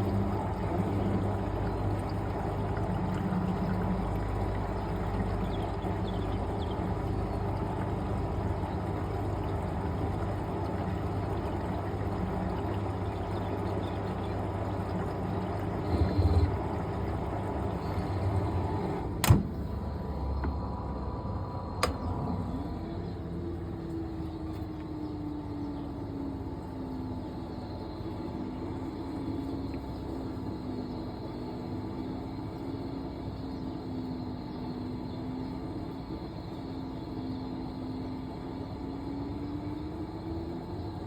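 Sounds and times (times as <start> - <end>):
hum: 0.0 - 41.0
water rushing into washing machine: 0.0 - 41.0.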